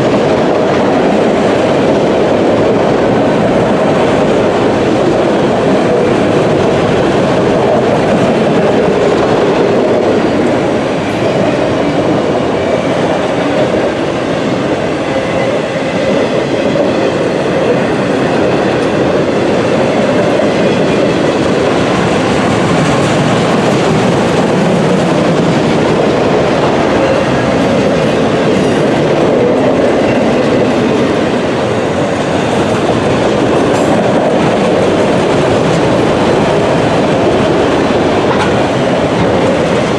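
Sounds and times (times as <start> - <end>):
steel wheels rumbling on rails: 0.0 - 39.9.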